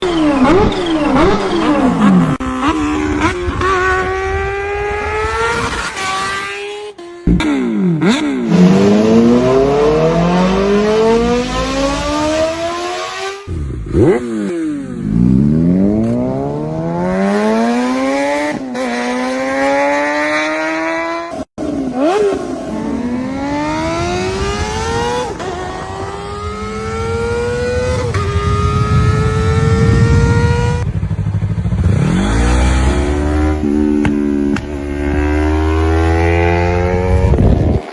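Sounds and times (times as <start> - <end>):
motorcycles accelerating through gears: 0.0 - 37.9.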